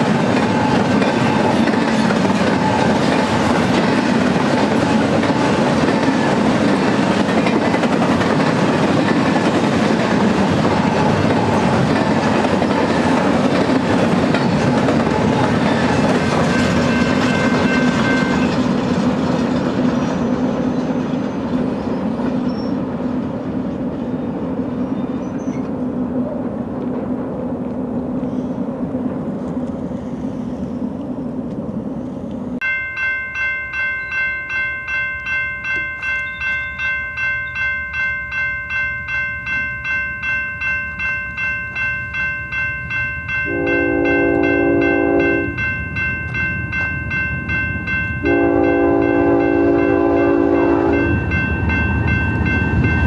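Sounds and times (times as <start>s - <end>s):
train wheels on rails: 0.0s - 32.7s, 33.3s - 53.0s.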